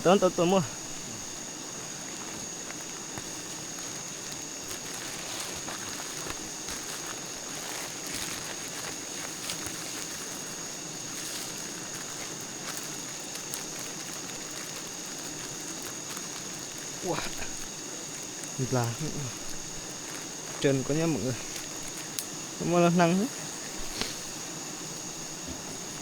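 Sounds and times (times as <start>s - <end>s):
crackling hiss: 0.0s - 26.0s
high-pitched insect drone: 0.0s - 26.0s.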